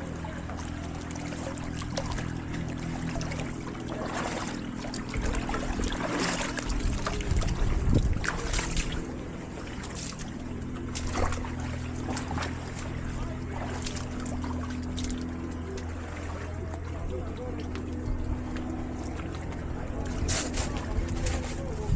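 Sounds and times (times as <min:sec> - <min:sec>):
boat engine humming: 0:00.0 - 0:21.9
water noise: 0:00.0 - 0:21.9
wind: 0:00.0 - 0:21.9.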